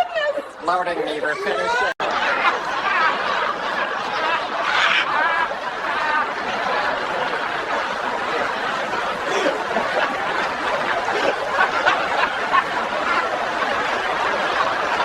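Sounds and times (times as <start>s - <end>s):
group of people laughing: 0.0s - 15.0s.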